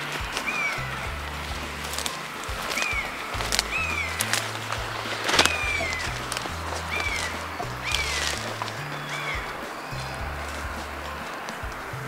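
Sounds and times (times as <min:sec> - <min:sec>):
low held bass notes: 0:00.0 - 0:12.0.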